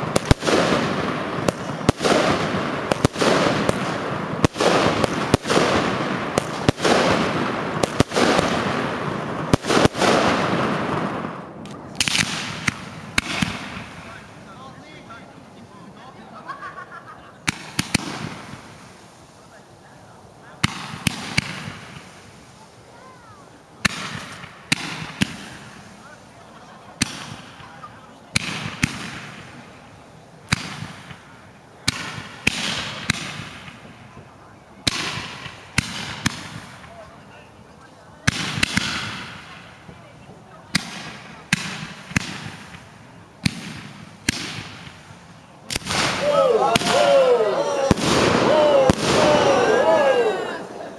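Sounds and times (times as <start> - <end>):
fireworks bangs: 0.0 - 15.5, 16.8 - 19.5, 20.4 - 37.4, 38.1 - 50.9
fireworks hissing: 0.0 - 50.9.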